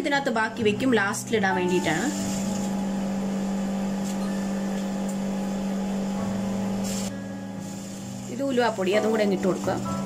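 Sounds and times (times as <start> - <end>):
low machine hum: 0.5 - 10.0.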